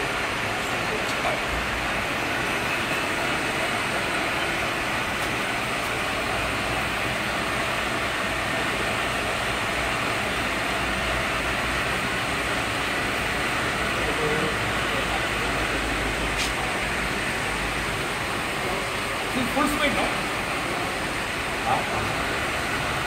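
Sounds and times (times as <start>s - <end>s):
production line machinery running: 0.0s - 23.0s.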